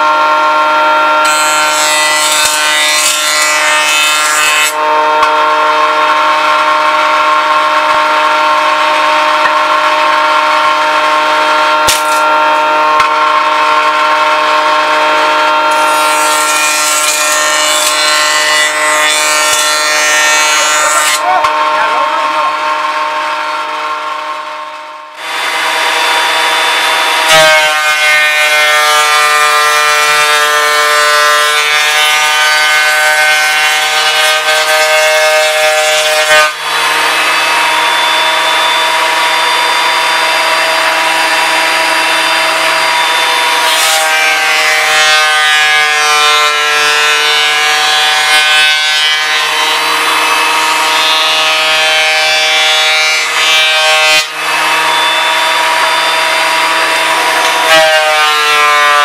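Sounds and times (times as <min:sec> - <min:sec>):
power tool cutting wood: 0:00.0 - 0:59.0.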